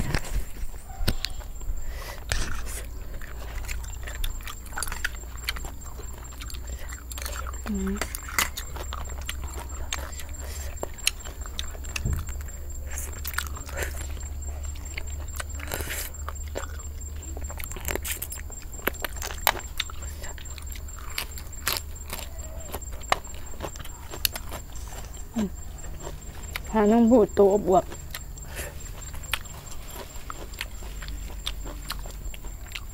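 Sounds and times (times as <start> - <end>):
chewing: 0.0 - 32.9.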